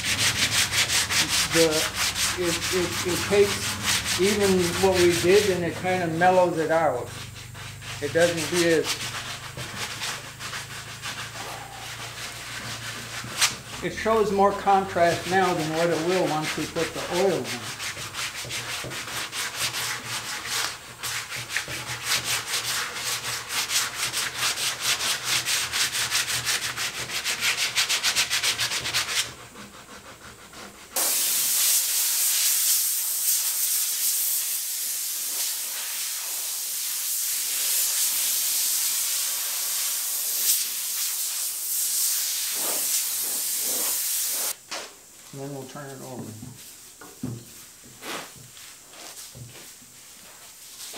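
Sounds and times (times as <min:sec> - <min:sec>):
sandpaper rubbing on wood: 0:00.0 - 0:44.6.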